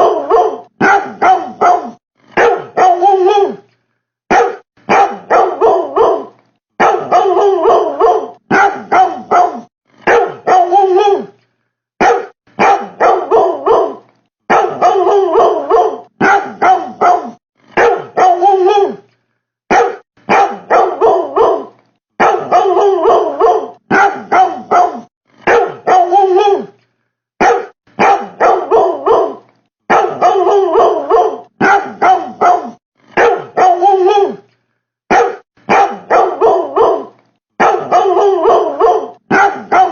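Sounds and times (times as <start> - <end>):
dog barking: 0.0 - 3.6, 4.3 - 11.3, 12.0 - 19.0, 19.7 - 26.7, 27.4 - 34.4, 35.1 - 39.9.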